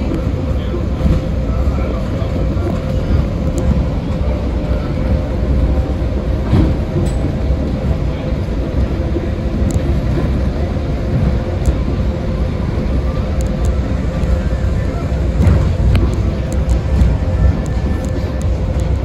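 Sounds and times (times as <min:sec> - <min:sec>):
monorail train low rumble: 0:00.0 - 0:19.0.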